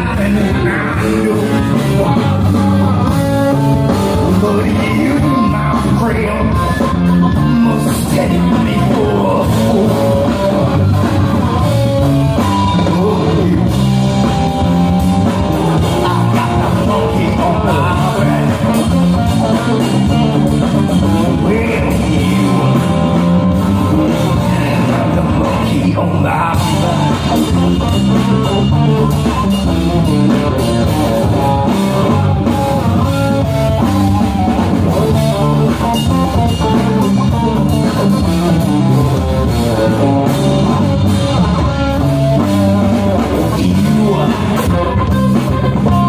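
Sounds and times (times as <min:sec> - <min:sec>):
bass line: 0:00.0 - 0:46.0
drum kit: 0:00.0 - 0:46.0
electric guitars: 0:00.0 - 0:46.0.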